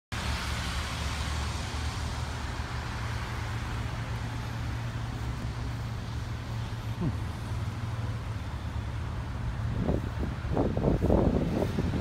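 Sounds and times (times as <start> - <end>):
car engine idling: 1.2 - 11.3.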